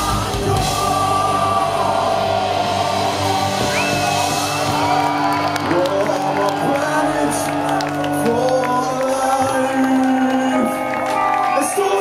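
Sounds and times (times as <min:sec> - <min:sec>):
live rock band: 0:00.0 - 0:12.0
crowd cheering and whooping: 0:00.5 - 0:12.0.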